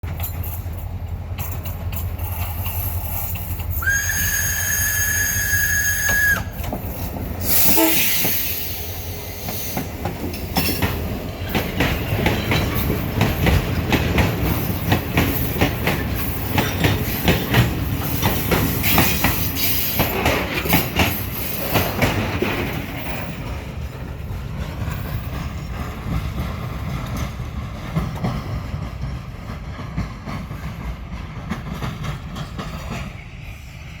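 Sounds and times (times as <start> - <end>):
train wheels clattering over rail joints: 0.0 - 33.8
faint steady train whine: 0.0 - 34.0.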